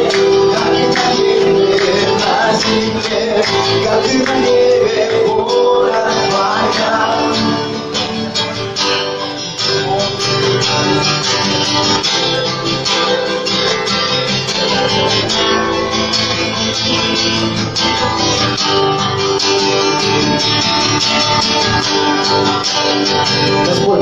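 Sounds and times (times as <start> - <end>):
live worship music: 0.0 - 24.0
strummed guitar: 0.0 - 24.0.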